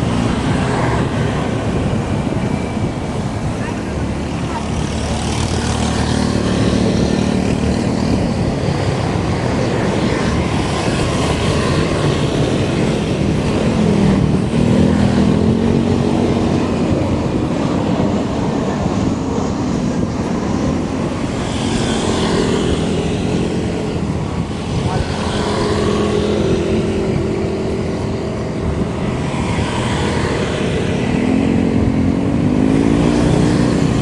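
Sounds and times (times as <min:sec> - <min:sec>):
road noise: 0:00.0 - 0:34.0
wind rush: 0:00.0 - 0:34.0.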